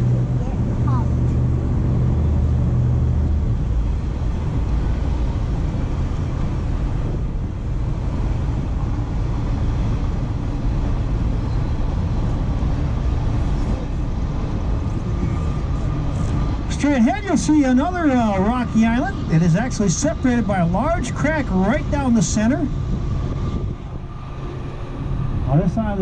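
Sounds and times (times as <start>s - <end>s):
boat engines rumbling: 0.0s - 26.0s
water rushing: 0.0s - 26.0s.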